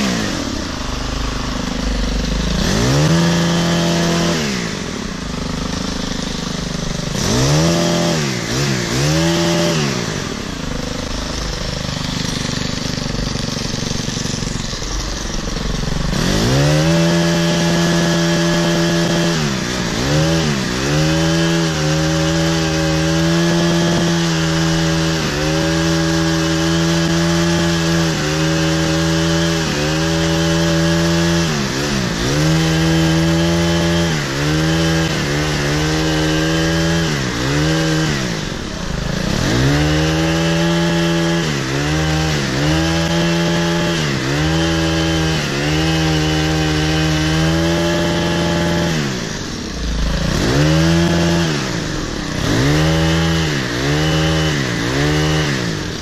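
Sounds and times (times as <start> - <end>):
hedge trimmer engine cutting hedge: 0.0 - 56.0.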